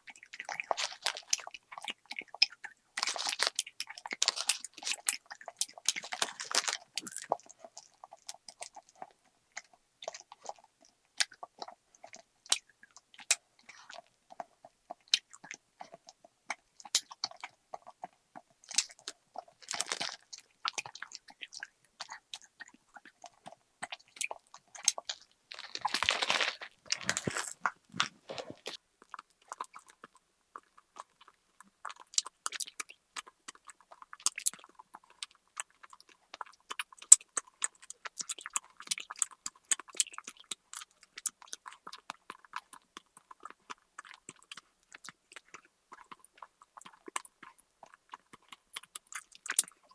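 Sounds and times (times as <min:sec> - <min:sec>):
chewing sweets: 0:00.0 - 0:49.9.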